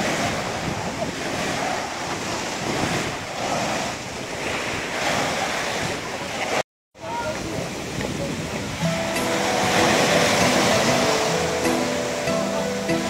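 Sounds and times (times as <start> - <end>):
wind buffeting microphone: 0.0 - 11.6
waves breaking on sandy beach: 0.0 - 13.0.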